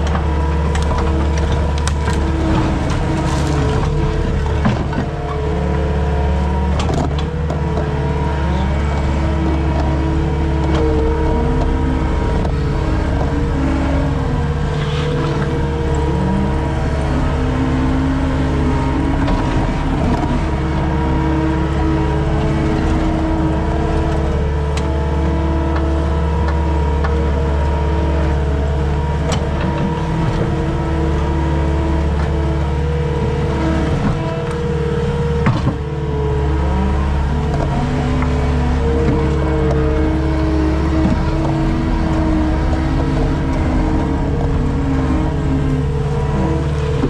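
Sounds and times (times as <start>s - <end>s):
skid steer engine running: 0.0s - 47.0s.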